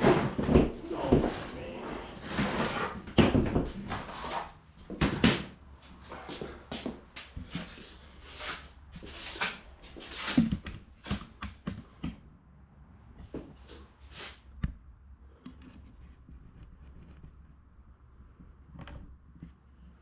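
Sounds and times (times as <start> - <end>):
low shop hum: 0.0 - 20.0.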